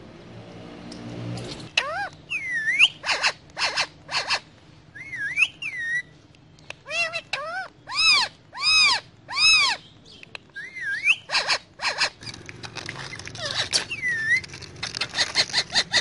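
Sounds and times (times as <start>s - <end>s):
parakeet calling and chirping: 1.6s - 16.0s.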